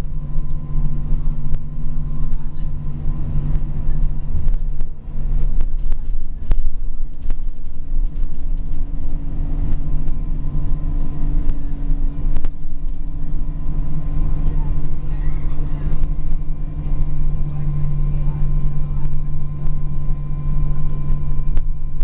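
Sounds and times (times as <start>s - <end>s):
bus engine running: 0.0s - 22.0s.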